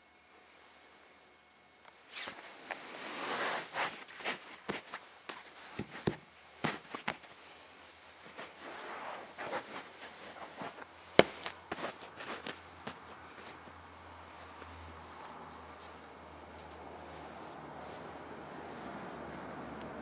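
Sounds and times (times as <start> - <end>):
soft rustling: 1.9 - 19.8.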